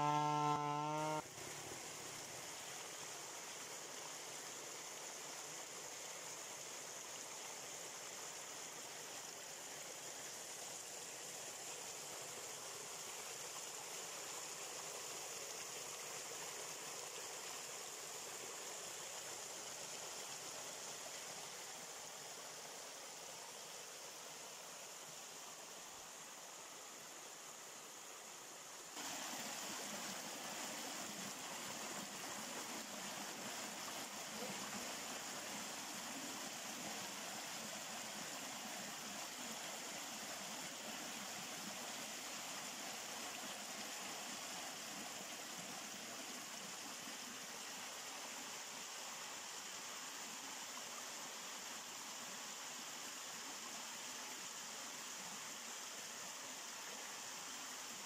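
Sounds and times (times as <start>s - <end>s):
water cascading over rocks: 0.0s - 58.0s.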